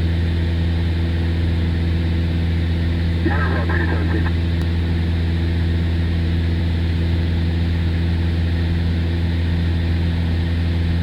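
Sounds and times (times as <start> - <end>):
aircraft engine drone in cabin: 0.0 - 11.0.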